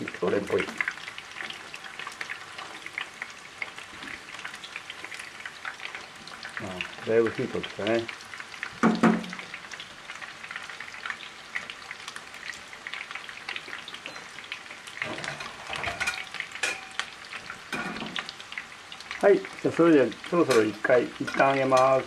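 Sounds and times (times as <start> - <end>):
chicken sizzling in frying pan: 0.0 - 22.0.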